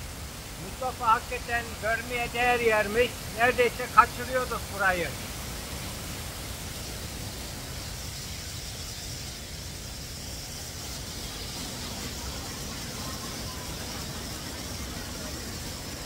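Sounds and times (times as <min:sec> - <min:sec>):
waterfall rushing: 0:00.0 - 0:08.8, 0:09.6 - 0:16.0.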